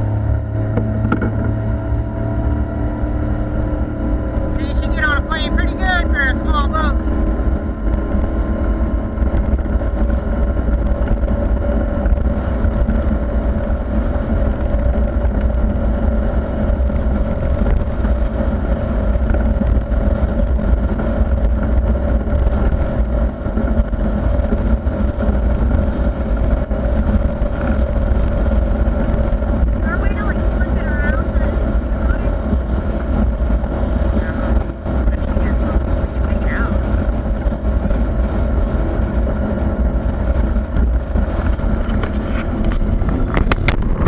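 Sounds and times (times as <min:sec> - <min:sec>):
outboard motor running: 0:00.0 - 0:44.0.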